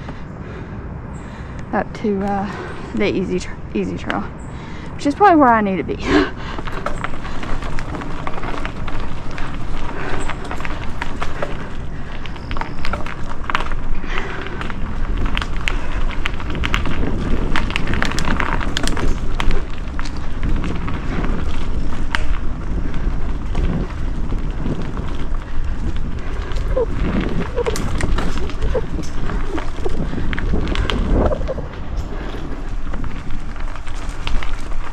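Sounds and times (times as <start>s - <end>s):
bike rattling over bumps: 0.0s - 34.9s
bike tyres on dirt: 0.0s - 34.9s
wind rumble on microphone: 0.0s - 34.9s.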